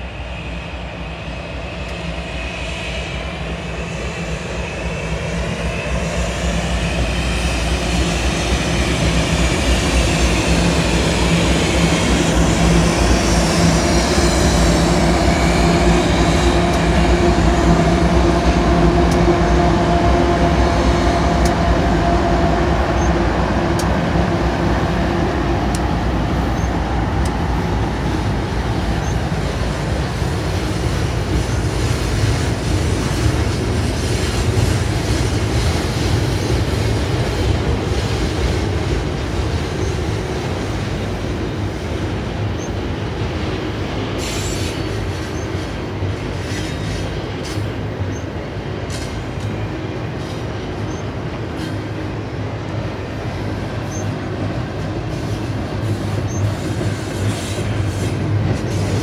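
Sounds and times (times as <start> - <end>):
diesel locomotive hum: 0.0 - 59.0
train wheels rumbling on rail: 0.0 - 59.0.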